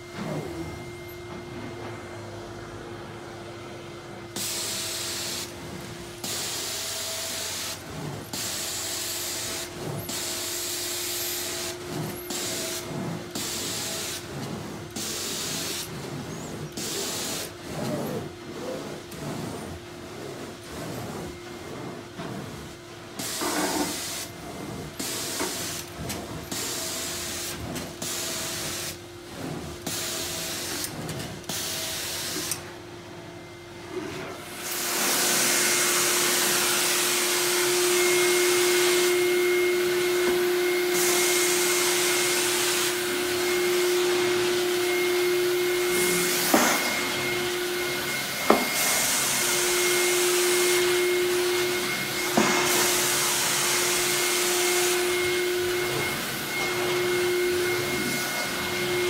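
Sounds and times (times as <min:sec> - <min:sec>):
carpet extractor vacuum suction: 0:00.0 - 0:59.0.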